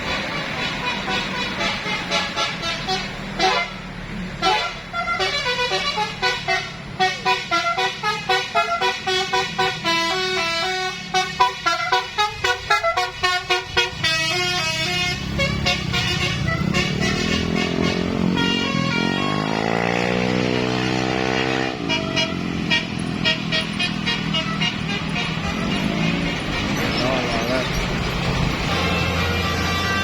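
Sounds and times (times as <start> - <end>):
bus horn playing fast melody: 0.0 - 27.8, 28.6 - 30.0
bus engine running: 0.0 - 30.0.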